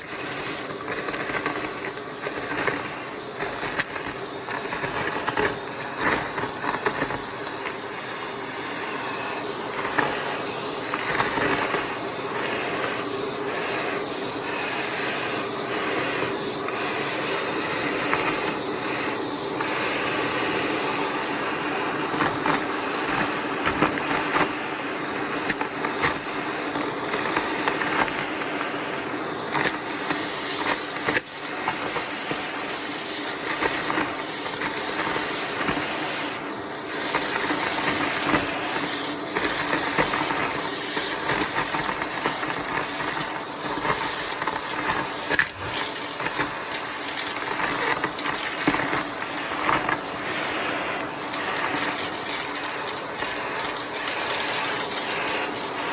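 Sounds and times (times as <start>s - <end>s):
debris crackling in vacuum: 0.0s - 15.0s, 21.3s - 55.9s
vacuum cleaner running: 0.0s - 55.9s.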